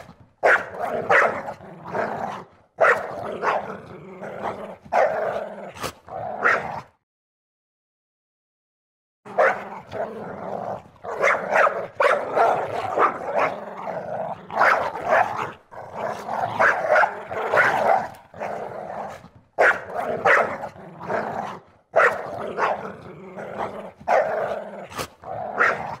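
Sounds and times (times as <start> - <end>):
dog snarling and growling: 0.0 - 7.0, 9.3 - 26.0.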